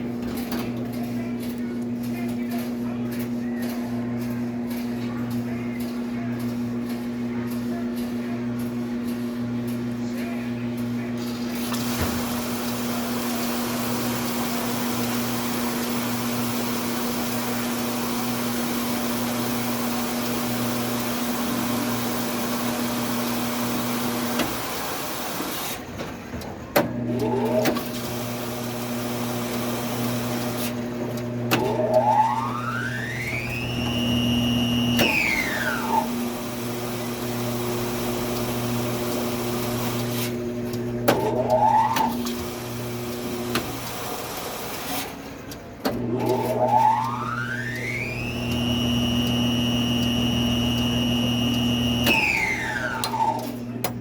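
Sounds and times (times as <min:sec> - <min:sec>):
washing machine humming: 0:00.0 - 0:54.0.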